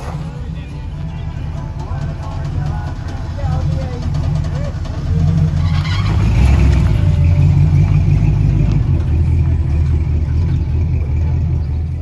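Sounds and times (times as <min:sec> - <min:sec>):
pickup truck engine rumbling: 0:00.0 - 0:12.0.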